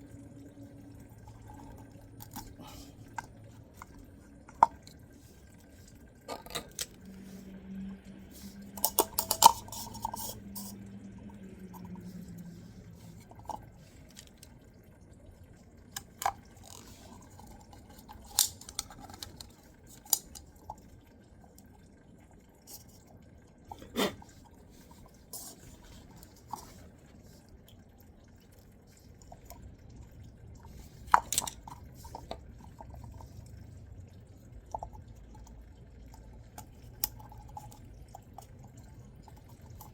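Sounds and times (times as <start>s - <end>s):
liquid dripping: 0.0s - 39.9s.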